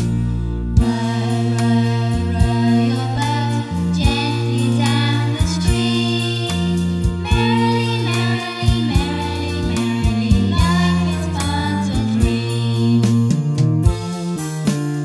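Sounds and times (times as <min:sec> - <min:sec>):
nursery rhyme backing music: 0:00.0 - 0:15.0.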